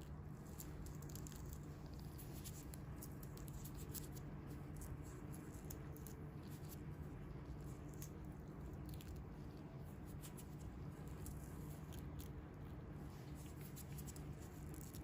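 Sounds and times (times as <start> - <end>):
soft ticks and crackles: 0.0 - 15.0.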